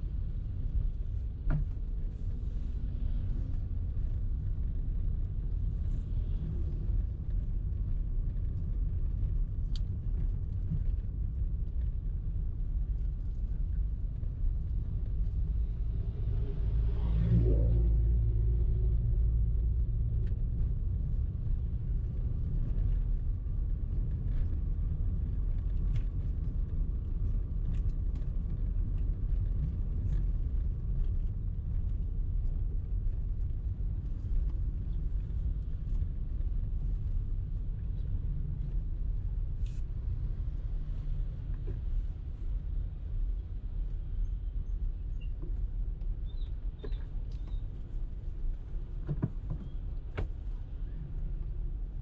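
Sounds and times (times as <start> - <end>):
car driving rumble: 0.0 - 52.0.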